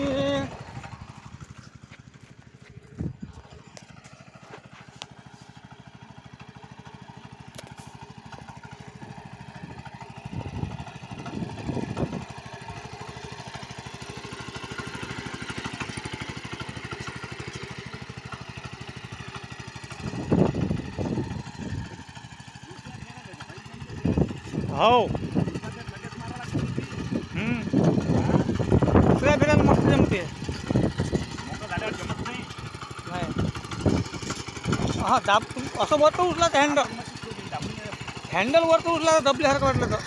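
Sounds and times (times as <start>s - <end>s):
power tiller engine running: 0.0s - 40.0s.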